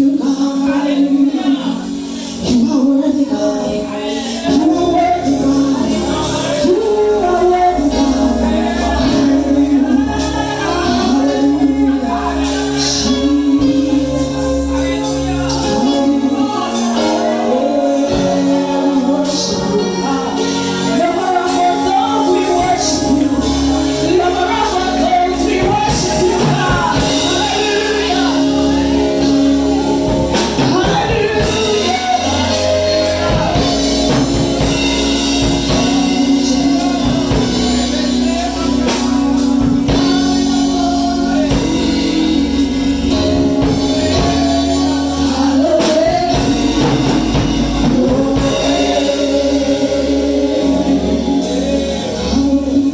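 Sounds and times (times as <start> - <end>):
gospel singing: 0.0 - 52.9
sustained keyboard chords: 0.0 - 52.9
steady drum beat: 4.5 - 51.7.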